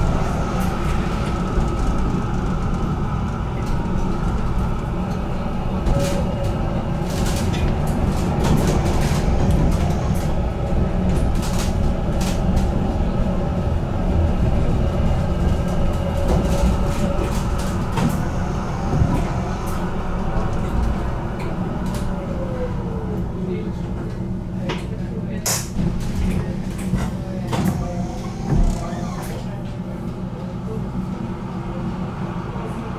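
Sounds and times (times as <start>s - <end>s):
tram rumbling on rails: 0.0s - 32.9s.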